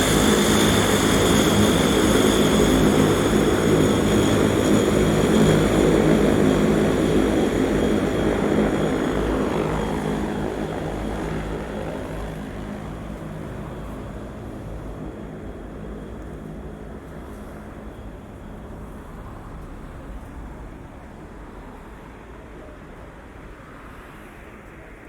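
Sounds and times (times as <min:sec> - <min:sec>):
turboprop aircraft passing: 0:00.0 - 0:25.0.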